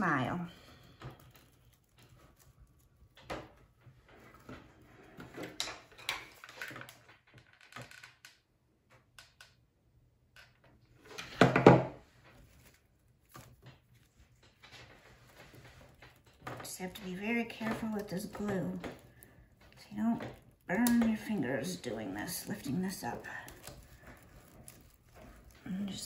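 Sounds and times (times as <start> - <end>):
stems clicking and rustling: 0.0 - 8.4, 10.4 - 26.0.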